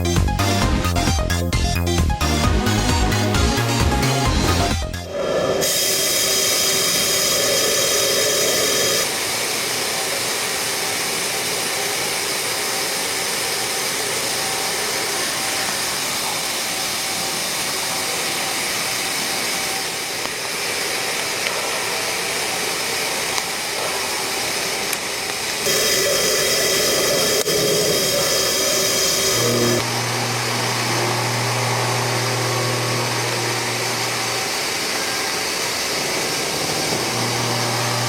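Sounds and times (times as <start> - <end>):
lathe hissing mechanical noise: 4.9 - 38.0.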